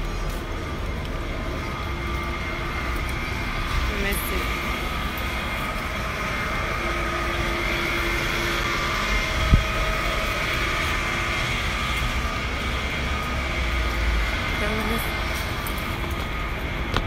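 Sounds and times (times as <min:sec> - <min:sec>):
city street rumble: 0:00.0 - 0:17.0
faint steady hums: 0:00.0 - 0:17.0.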